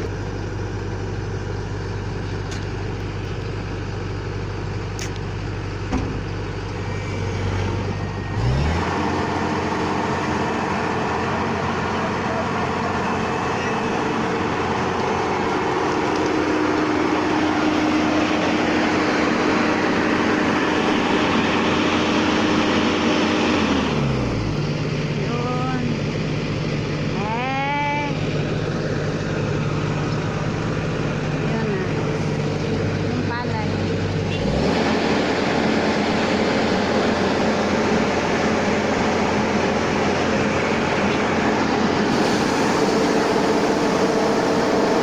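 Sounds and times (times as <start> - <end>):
combine harvester engine running: 0.0 - 45.0.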